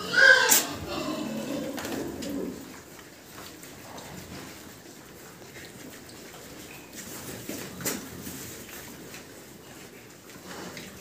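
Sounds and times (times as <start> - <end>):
piglets shuffling on concrete: 0.0 - 11.0.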